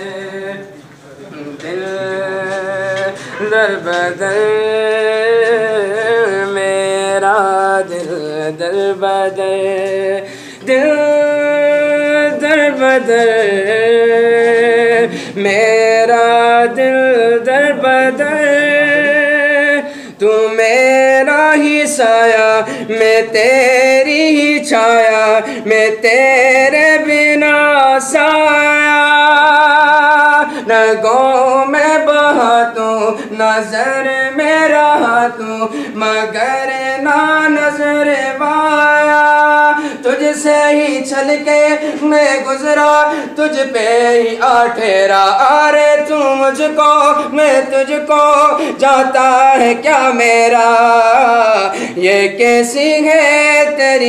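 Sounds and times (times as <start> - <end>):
young man singing: 0.0 - 54.0.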